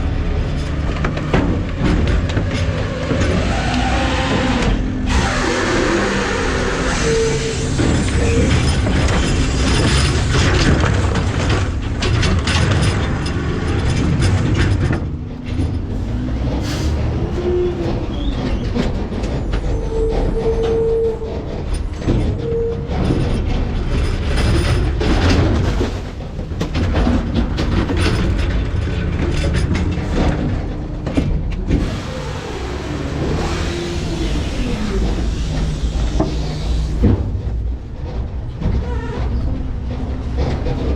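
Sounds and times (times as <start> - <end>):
garbage truck low rumble: 0.0 - 40.9
hydraulics whining: 0.0 - 40.9.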